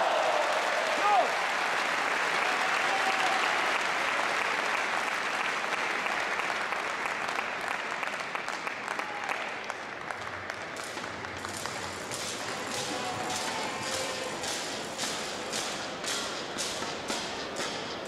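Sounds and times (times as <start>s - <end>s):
spectators applauding: 0.0s - 15.4s.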